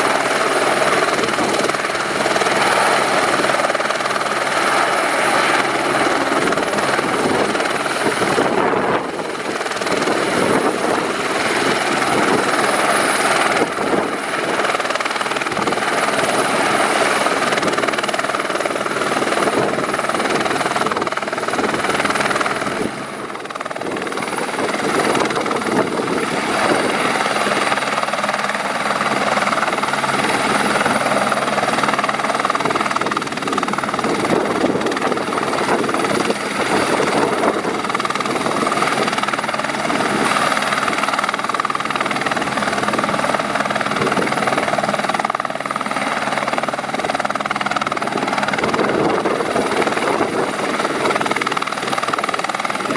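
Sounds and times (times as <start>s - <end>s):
helicopter rotor noise: 0.0s - 52.9s
helicopter turbine whining: 0.0s - 52.9s.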